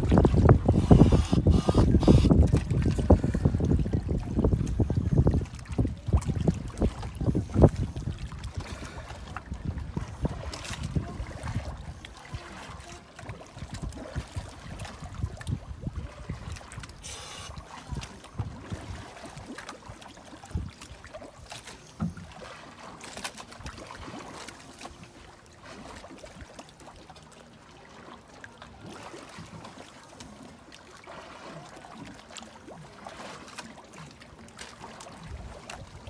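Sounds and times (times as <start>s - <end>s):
water sloshing and splashing: 0.0s - 36.0s.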